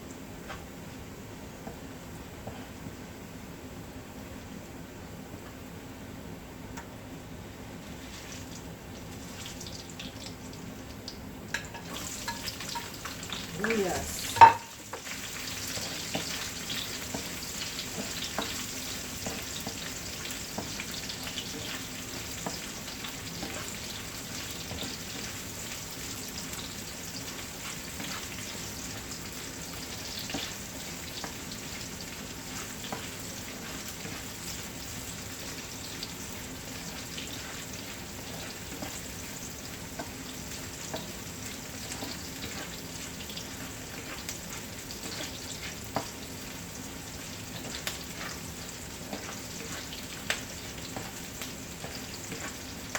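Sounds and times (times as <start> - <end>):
food sizzling in hot oil: 7.8 - 52.9.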